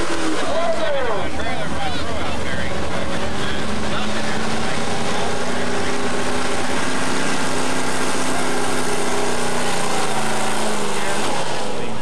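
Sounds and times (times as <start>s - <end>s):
truck engine running at high revs: 0.0s - 12.0s.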